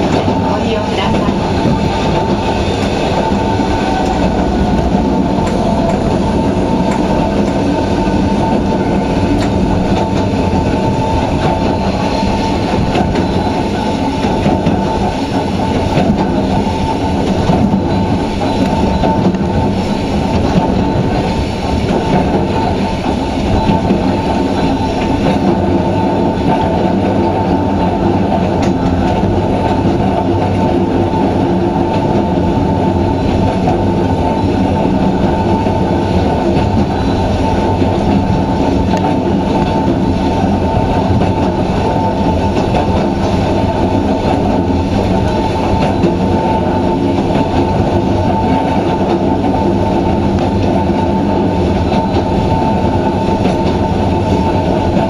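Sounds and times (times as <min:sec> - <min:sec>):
electric train motors humming: 0:00.0 - 0:55.0
wheels on rail: 0:00.0 - 0:55.0.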